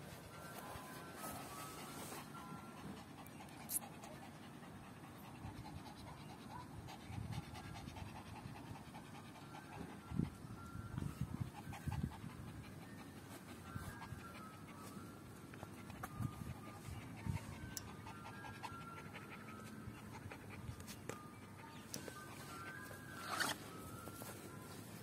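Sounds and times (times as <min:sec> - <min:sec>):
dog panting: 0:00.1 - 0:23.5.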